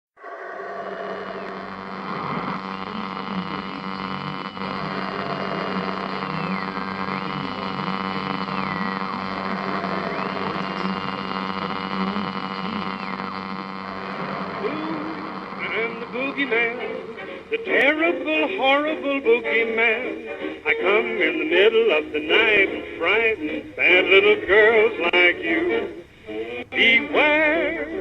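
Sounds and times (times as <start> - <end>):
mains hum: 0.2 - 28.0
radio static: 0.2 - 28.0.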